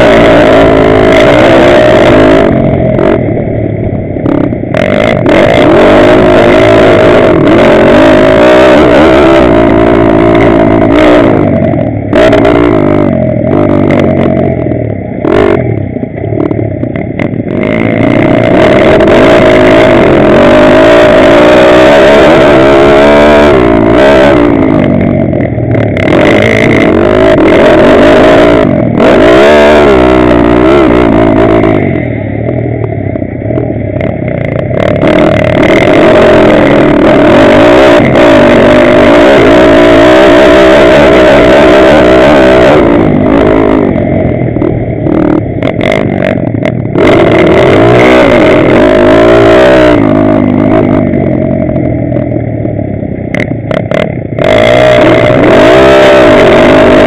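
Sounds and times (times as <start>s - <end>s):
pit bike engine revving: 0.0s - 57.0s
wind: 0.0s - 57.0s.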